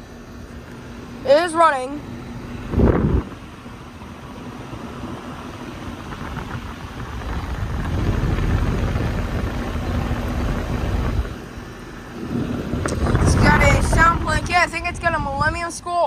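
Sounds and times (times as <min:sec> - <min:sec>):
air conditioner fan noise: 0:00.0 - 0:16.0
faint low compressor hum: 0:00.0 - 0:16.0.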